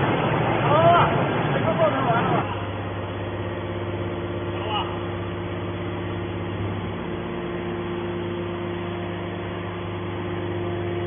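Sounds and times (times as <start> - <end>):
hydraulic power unit humming: 0.0 - 11.0.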